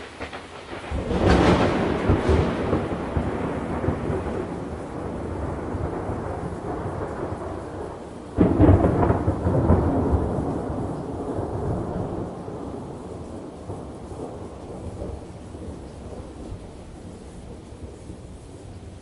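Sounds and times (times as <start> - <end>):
thunderclap rolling into rumble: 0.0 - 18.8
rain-like hiss: 0.0 - 19.0.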